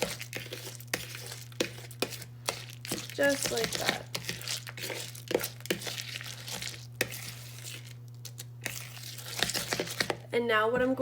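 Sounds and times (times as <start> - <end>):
spoon stirring seeds in a bowl: 0.0 - 10.2.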